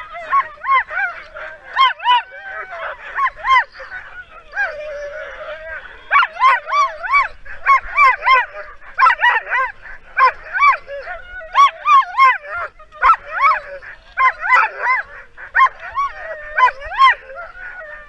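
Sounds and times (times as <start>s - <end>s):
dog whining: 0.0s - 18.0s
dogs yelping: 0.0s - 18.0s.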